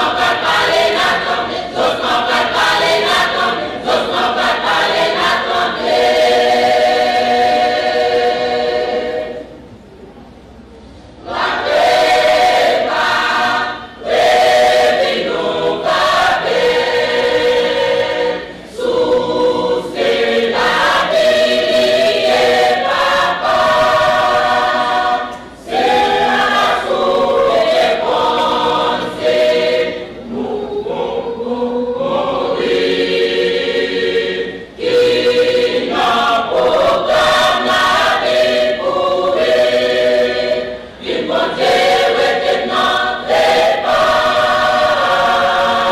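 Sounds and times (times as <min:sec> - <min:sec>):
choir singing: 0:00.0 - 0:09.8, 0:11.2 - 0:45.9.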